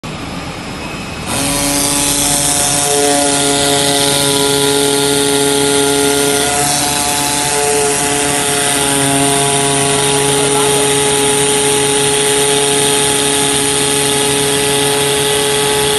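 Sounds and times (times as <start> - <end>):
machine whining tones: 0.1 - 15.9
cutting machine hum and hiss: 1.2 - 15.9.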